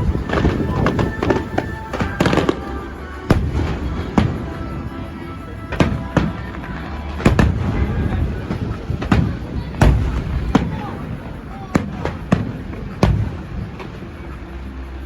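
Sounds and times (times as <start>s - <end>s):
fireworks bangs: 0.0s - 14.8s
continuous rumble: 0.0s - 15.0s
music playing: 0.0s - 15.0s.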